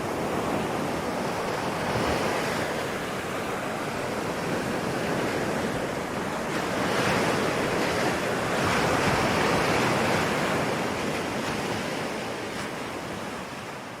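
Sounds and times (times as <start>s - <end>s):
ocean surf washing in: 0.0s - 14.0s.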